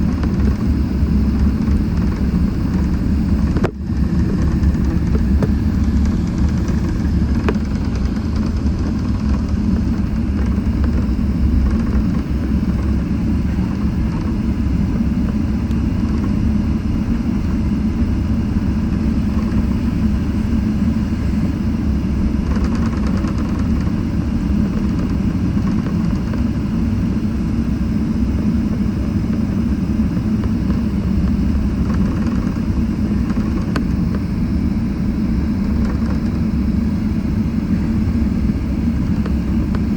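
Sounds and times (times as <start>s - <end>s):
jet engines low rumble: 0.0s - 39.9s.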